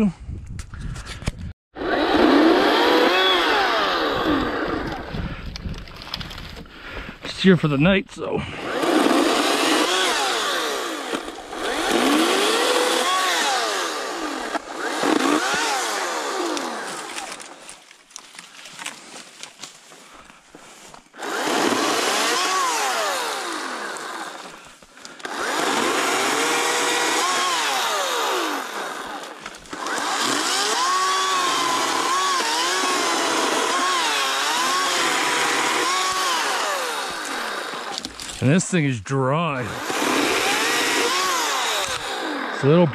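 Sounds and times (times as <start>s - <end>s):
electric chainsaw cutting branches: 1.8s - 6.6s, 8.4s - 19.9s, 20.8s - 38.5s, 39.6s - 42.9s.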